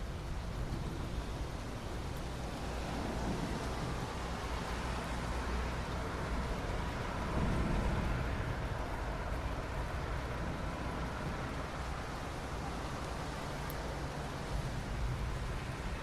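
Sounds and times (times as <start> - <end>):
soft rain on asphalt: 0.0 - 16.0.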